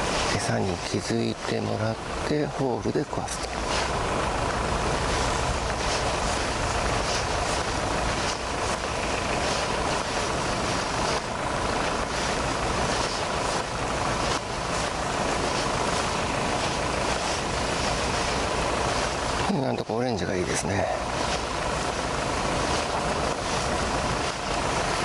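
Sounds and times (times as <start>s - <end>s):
engine rumble: 0.0s - 25.0s
faint steady hum: 0.0s - 25.0s.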